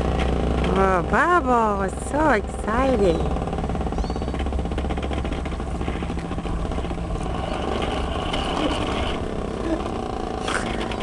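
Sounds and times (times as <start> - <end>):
faint motor whine: 0.0 - 11.0
low rumble: 0.0 - 11.0
toy lawnmower rattling: 0.0 - 11.0.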